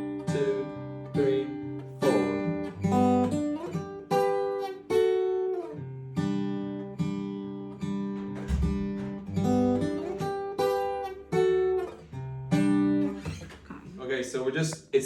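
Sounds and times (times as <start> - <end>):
acoustic guitar fingerpicked: 0.0 - 14.9.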